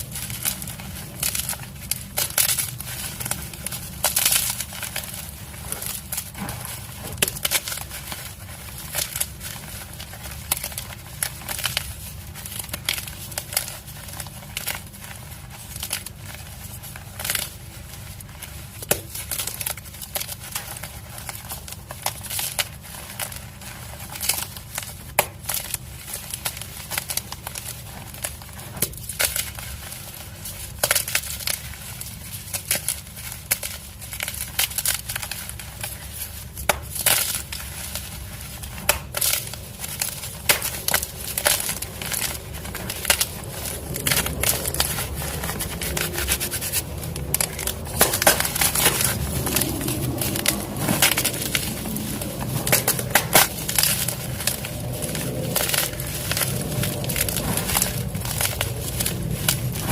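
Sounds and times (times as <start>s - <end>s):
chalk blocks crunching: 0.0s - 59.9s.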